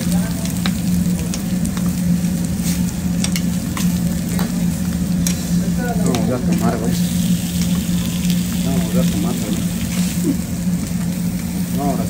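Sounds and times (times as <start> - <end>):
low hum: 0.0 - 12.0
meat sizzling on a griddle: 0.0 - 12.0.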